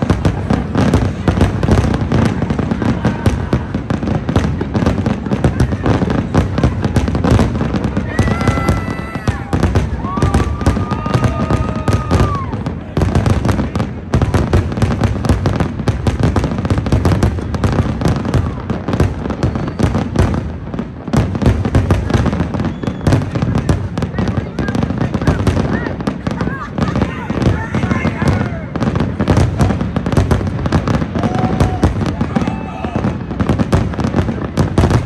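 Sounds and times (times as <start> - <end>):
fireworks bangs and crackles: 0.0 - 35.0
high whistling fireworks: 0.0 - 35.0.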